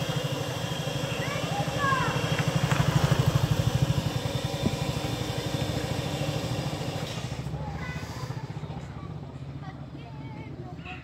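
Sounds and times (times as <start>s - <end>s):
engine running with low throb: 0.0s - 9.6s.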